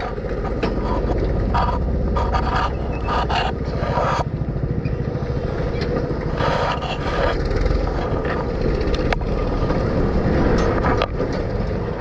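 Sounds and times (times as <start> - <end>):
motor vehicle noise: 0.0 - 12.0.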